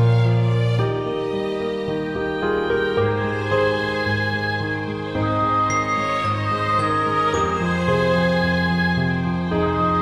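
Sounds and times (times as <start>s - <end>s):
soft instrumental background music: 0.0s - 10.0s.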